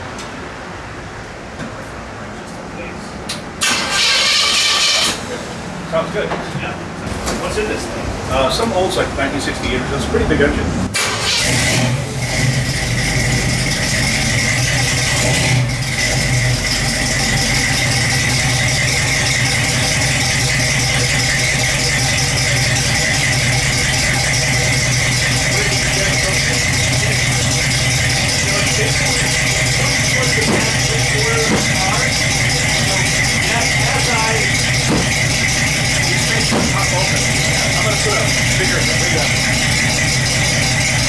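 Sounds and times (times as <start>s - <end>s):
large car engine idling: 3.6s - 41.0s.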